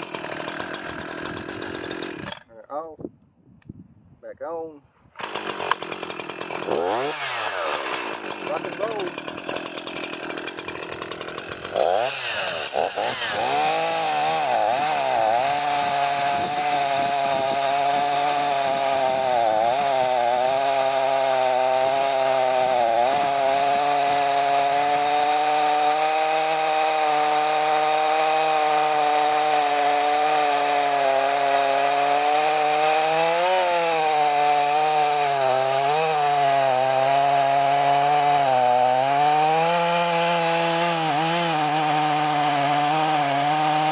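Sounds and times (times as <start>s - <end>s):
chainsaw cutting wood: 0.0s - 2.6s, 5.2s - 43.9s.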